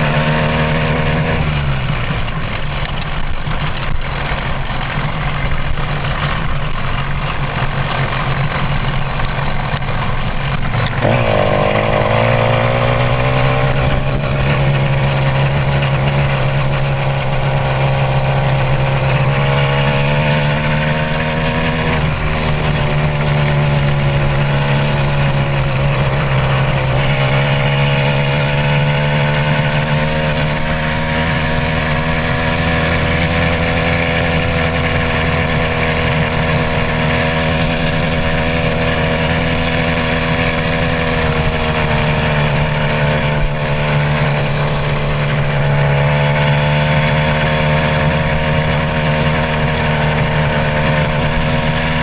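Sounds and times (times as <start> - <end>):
two-stroke bicycle engine running: 0.0 - 52.0.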